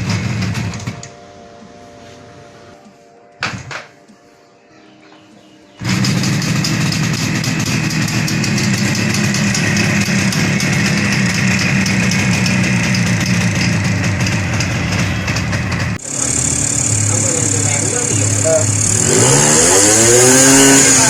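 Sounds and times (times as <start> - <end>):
motorcycle engine idling: 0.0 - 2.8, 5.7 - 21.0.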